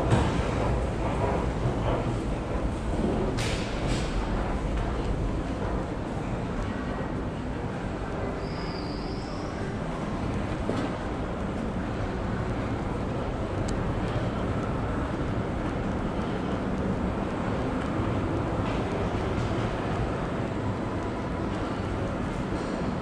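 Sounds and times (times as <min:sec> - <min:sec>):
metro station low rumble: 0:00.0 - 0:23.0.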